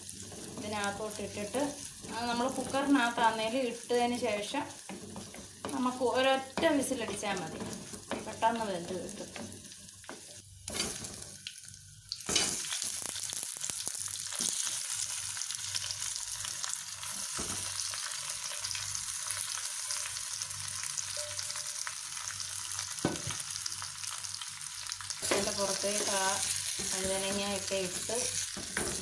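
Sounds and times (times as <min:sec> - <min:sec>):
hot oil sizzling in a pot: 0:00.0 - 0:29.0.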